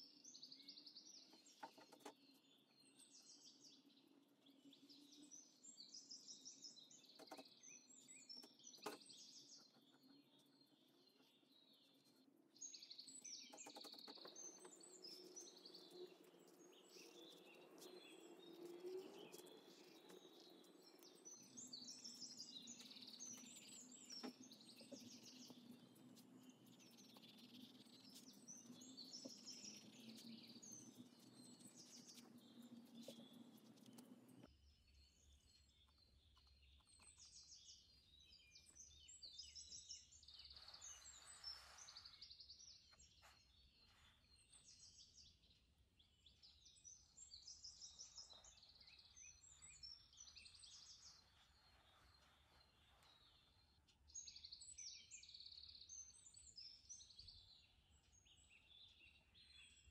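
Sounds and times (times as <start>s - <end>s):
faint birds chirping: 0.0s - 59.9s.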